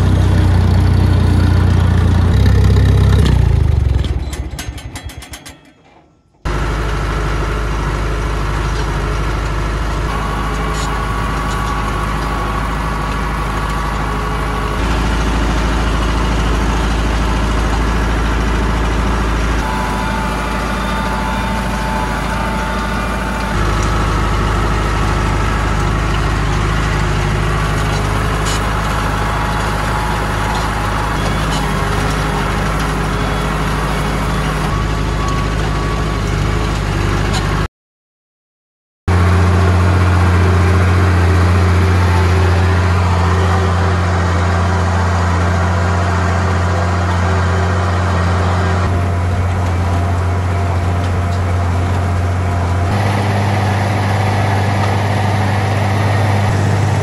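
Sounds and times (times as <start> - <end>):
tractor engine running: 0.0 - 37.7, 39.1 - 57.0.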